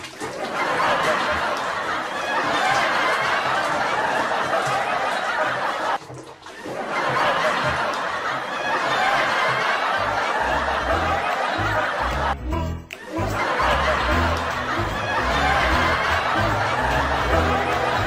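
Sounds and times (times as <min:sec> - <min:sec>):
group of people laughing: 0:00.2 - 0:18.0.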